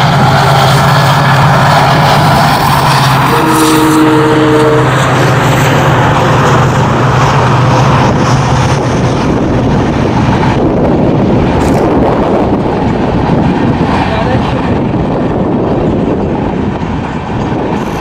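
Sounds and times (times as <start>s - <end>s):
train coaches rumbling past: 0.0s - 18.0s
wind noise on microphone: 0.0s - 18.0s.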